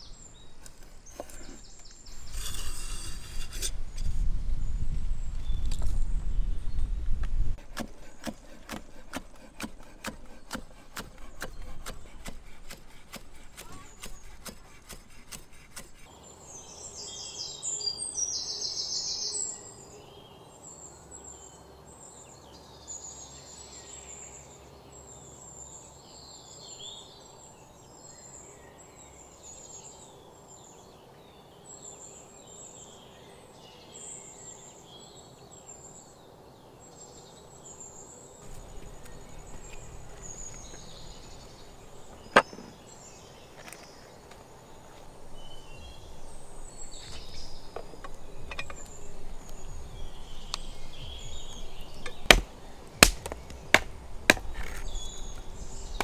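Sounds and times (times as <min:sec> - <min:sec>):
steady outdoor background: 0:00.0 - 0:56.0
wild birds chirping: 0:00.0 - 0:56.0.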